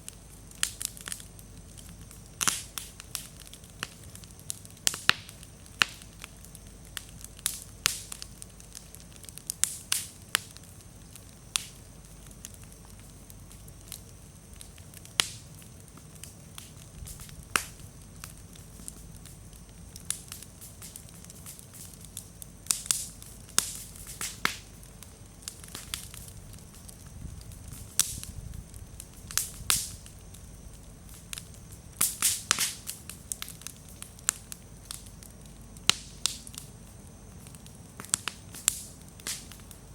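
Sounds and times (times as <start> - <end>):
bonfire crackling and popping: 0.0 - 39.9
low hiss of burning: 0.0 - 39.9.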